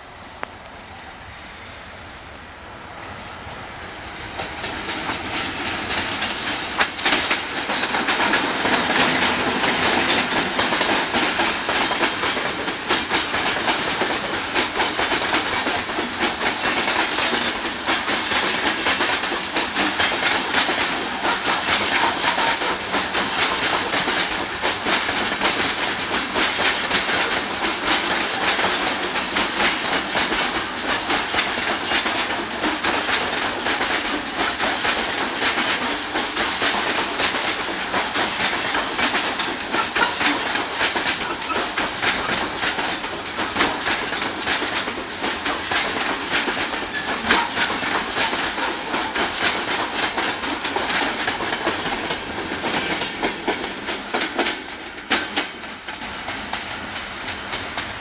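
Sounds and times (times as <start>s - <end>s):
diesel locomotive passing: 0.0s - 58.0s
wagon wheels clacking over rail joints: 4.3s - 58.0s.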